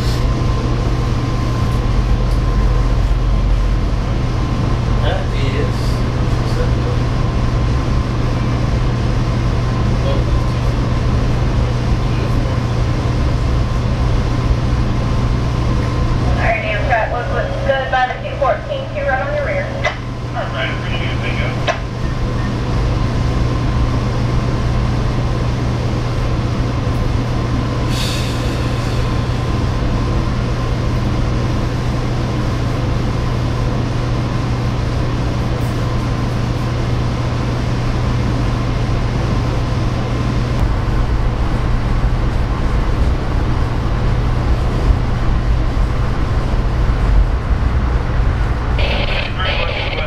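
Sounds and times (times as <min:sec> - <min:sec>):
constant low hum: 0:00.0 - 0:50.0
train rumbling at speed: 0:00.0 - 0:50.0.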